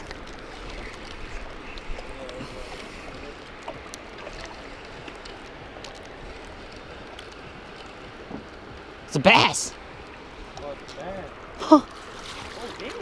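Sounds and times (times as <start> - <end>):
rushing spillway water: 0.0 - 13.0
wind: 0.0 - 13.0.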